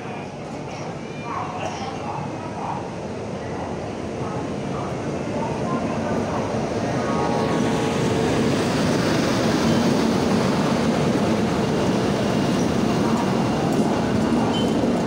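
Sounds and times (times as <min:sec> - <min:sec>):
passenger train rumbling past: 0:00.0 - 0:15.0.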